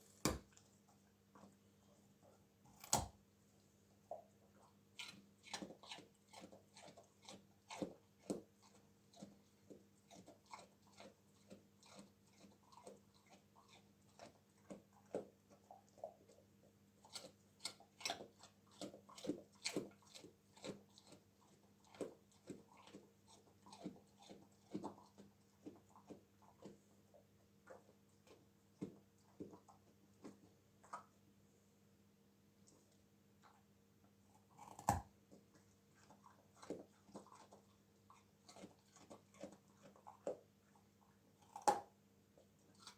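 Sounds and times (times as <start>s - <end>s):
dog crunching carrots: 4.1s - 31.1s, 34.2s - 42.9s.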